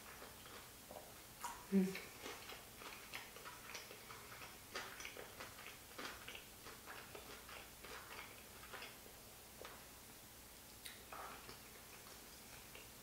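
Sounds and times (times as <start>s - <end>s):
person chewing food: 0.0s - 9.9s, 10.7s - 13.0s.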